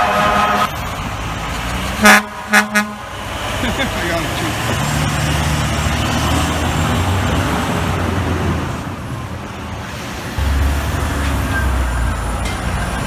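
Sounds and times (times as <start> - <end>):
city street traffic: 0.0 - 13.0
truck engine rumbling: 0.0 - 13.0.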